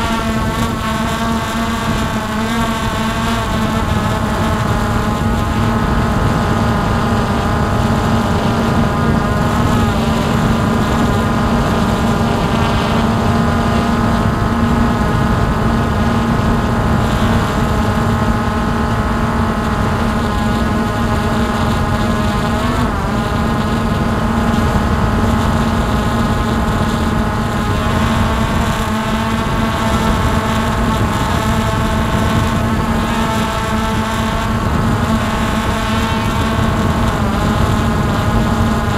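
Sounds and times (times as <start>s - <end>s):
quadcopter propellers whirring: 0.0s - 38.9s.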